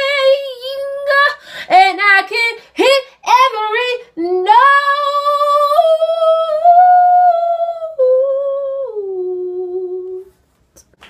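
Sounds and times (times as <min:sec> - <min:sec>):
girl singing a long held note: 0:00.0 - 0:10.3.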